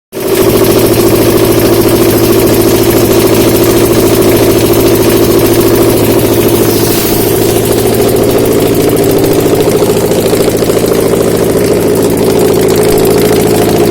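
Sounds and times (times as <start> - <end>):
engine idling: 0.2 - 13.9.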